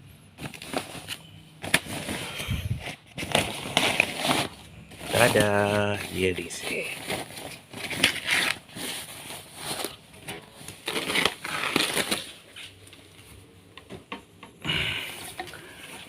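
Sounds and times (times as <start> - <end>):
packaging rustling: 0.4 - 13.4.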